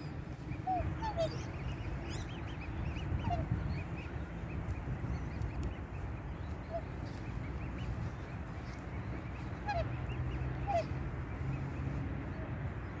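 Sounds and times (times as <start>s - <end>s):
swan calls: 0.0s - 12.0s
cygnets peeping: 0.0s - 13.0s
low steady rumble: 0.0s - 13.0s.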